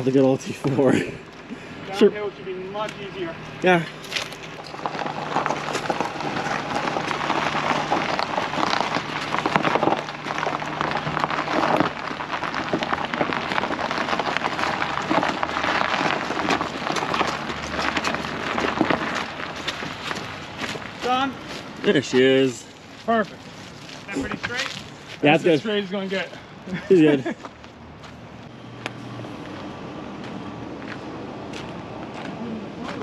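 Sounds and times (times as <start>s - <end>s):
low engine hum: 0.0s - 33.0s
tyres crunching while rolling: 0.0s - 33.0s.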